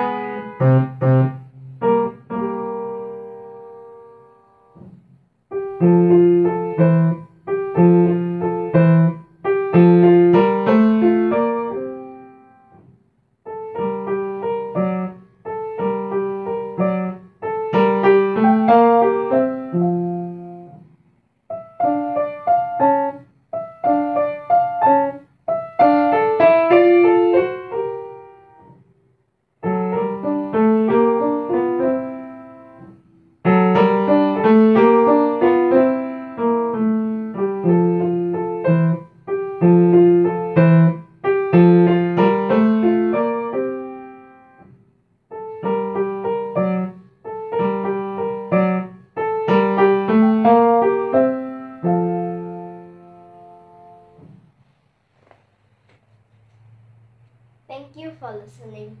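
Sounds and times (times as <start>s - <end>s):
upright piano playing: 0.0s - 12.8s, 13.4s - 28.9s, 29.6s - 54.4s.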